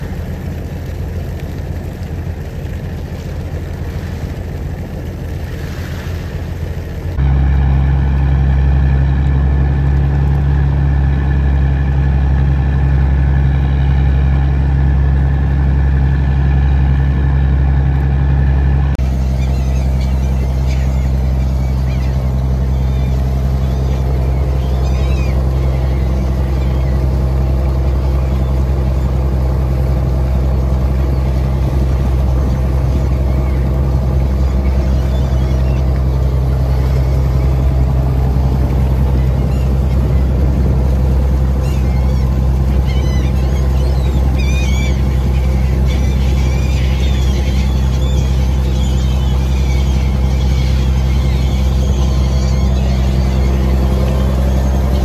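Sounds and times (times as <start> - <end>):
diesel boat engine droning: 0.0 - 55.0
gulls calling: 0.0 - 55.0.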